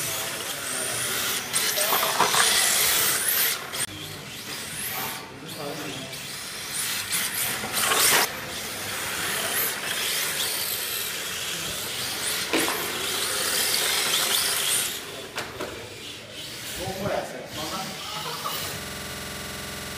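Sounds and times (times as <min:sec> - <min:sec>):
rc cars drifting on concrete: 0:00.0 - 0:19.9.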